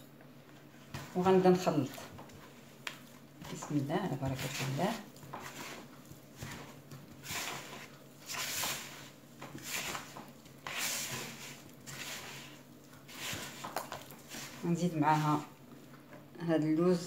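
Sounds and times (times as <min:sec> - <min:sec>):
butter squishing in plastic bowl: 0:00.6 - 0:16.3.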